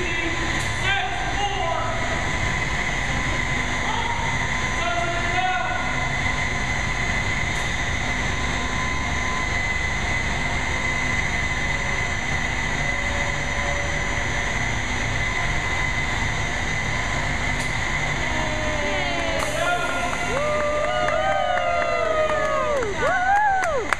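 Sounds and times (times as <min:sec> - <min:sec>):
heavy machinery rumble: 0:00.0 - 0:23.9
machinery high whine: 0:00.0 - 0:23.9.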